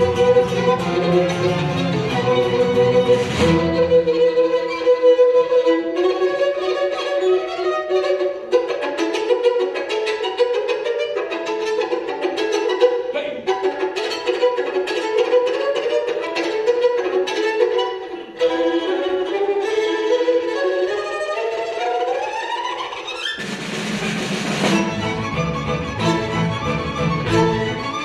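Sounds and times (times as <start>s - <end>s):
bowed folk fiddle solo: 0.0s - 23.4s, 24.6s - 28.0s
string orchestra accompanying: 0.0s - 28.0s.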